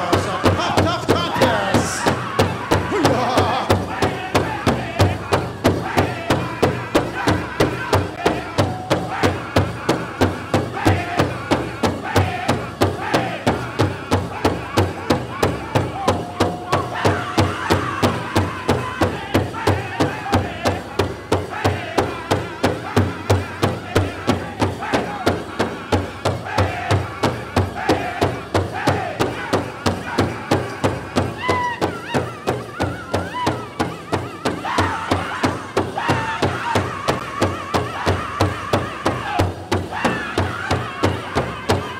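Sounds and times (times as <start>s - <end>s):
large drum beaten in unison: 0.0s - 41.9s
singers' voices: 0.0s - 41.9s.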